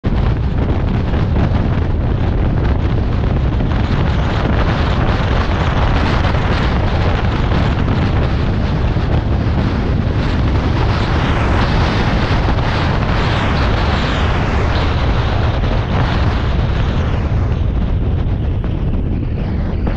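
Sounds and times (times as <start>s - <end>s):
road and wind noise from car: 0.0s - 19.9s
wind buffeting microphone: 0.0s - 19.9s.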